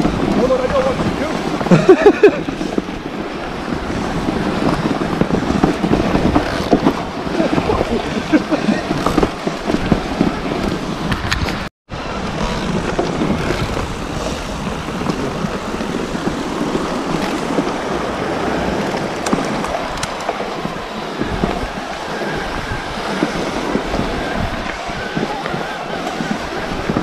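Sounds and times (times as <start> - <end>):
bike knocking and rattling: 0.0 - 27.0
tyre and wind noise: 0.0 - 27.0.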